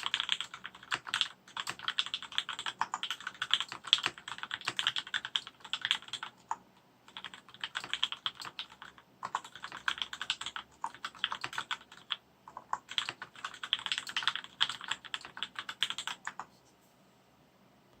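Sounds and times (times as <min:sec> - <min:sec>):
mechanical keyboard typing: 0:00.0 - 0:16.5.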